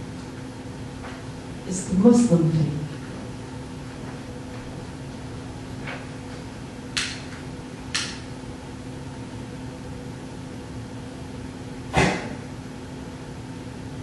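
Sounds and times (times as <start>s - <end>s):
air handling hum: 0.0s - 14.0s.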